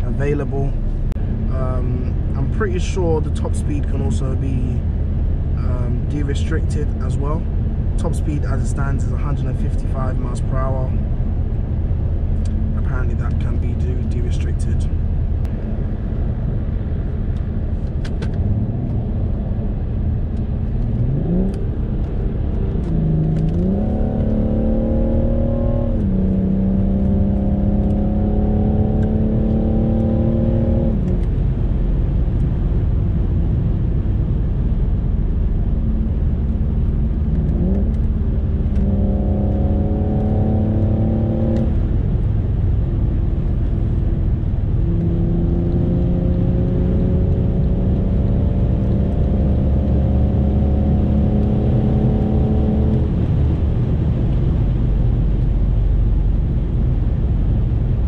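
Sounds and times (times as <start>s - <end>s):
car engine revving: 0.0s - 58.0s
road and tyre rumble: 0.0s - 58.0s.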